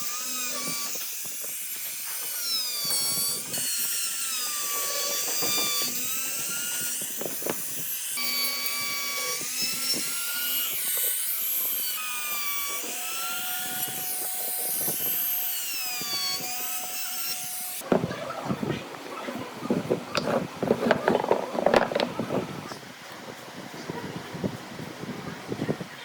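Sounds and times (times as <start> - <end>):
rotary power tool on wood: 0.0 - 18.1, 19.7 - 22.8.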